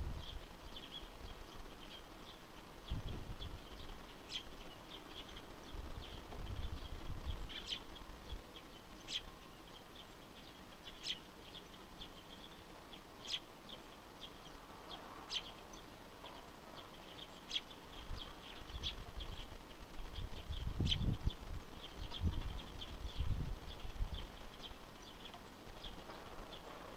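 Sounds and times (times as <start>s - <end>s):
birds chirping: 0.1s - 26.9s.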